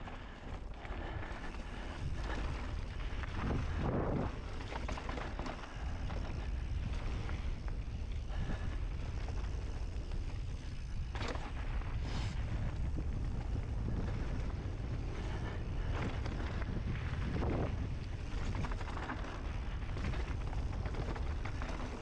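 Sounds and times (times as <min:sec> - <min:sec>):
bike rattling over rough ground: 0:00.0 - 0:22.0
bike tyre noise: 0:00.0 - 0:22.0
wind buffeting microphone: 0:01.0 - 0:22.0.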